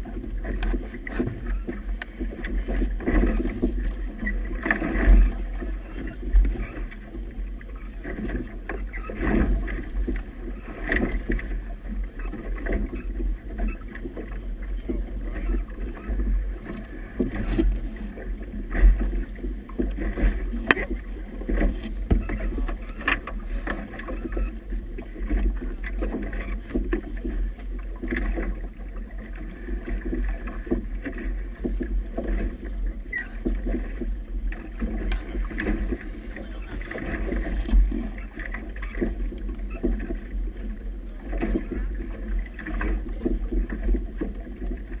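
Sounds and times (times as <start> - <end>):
knocks and splashes: 0.0 - 45.0
water slapping boat hull: 0.0 - 45.0.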